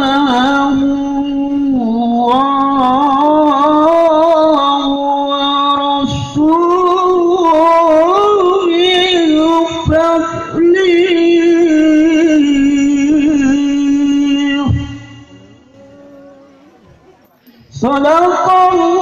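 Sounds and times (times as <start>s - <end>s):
person singing ornamented chant: 0.0s - 19.0s.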